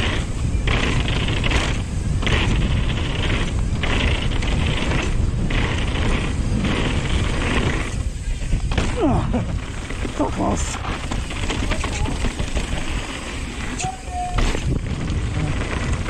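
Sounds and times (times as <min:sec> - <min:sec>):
bike tyre and suspension noise: 0:00.0 - 0:16.0
wind buffeting microphone: 0:00.0 - 0:16.0.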